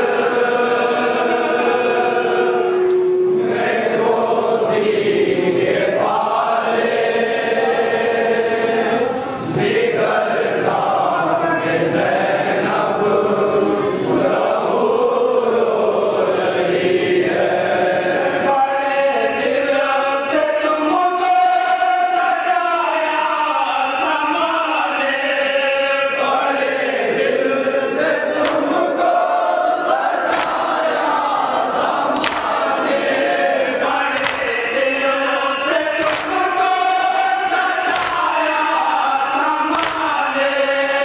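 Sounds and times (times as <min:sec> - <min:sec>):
men chanting a mourning lament: 0:00.0 - 0:41.0.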